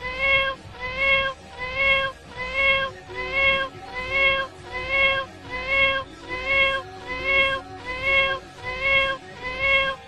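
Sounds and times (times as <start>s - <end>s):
cat meowing: 0.0s - 10.0s.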